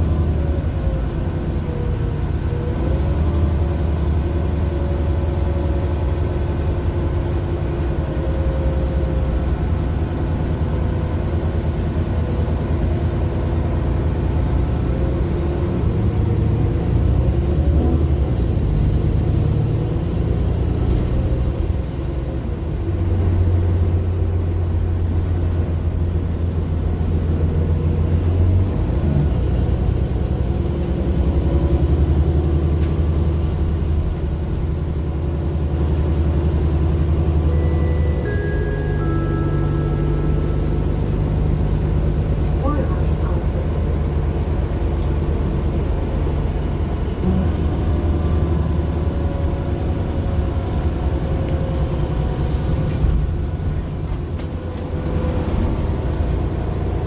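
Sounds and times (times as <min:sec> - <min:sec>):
bus diesel engine driving: 0:00.0 - 0:57.0.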